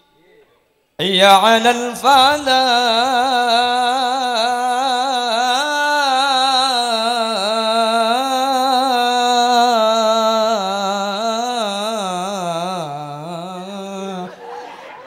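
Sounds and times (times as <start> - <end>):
man chanting into microphone: 1.0 - 14.4.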